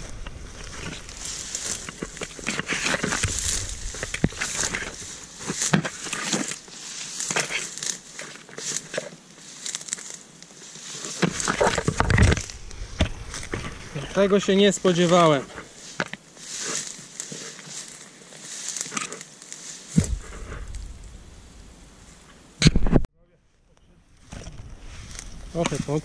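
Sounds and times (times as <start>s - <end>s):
dry stems trampled underfoot: 0.0s - 21.2s, 24.0s - 26.0s
weeds rustling as someone pushes through: 0.0s - 22.3s, 24.0s - 26.0s.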